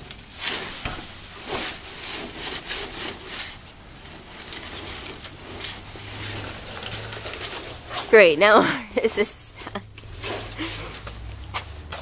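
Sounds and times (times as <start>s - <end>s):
branches and leaves rustling: 0.0s - 12.0s.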